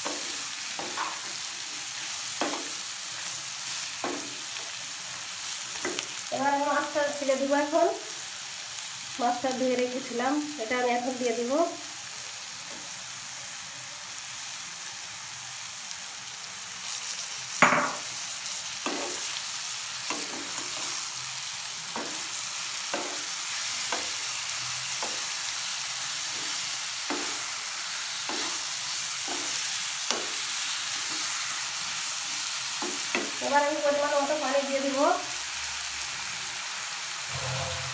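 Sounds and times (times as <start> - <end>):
fish sizzling in hot oil: 0.0 - 37.9.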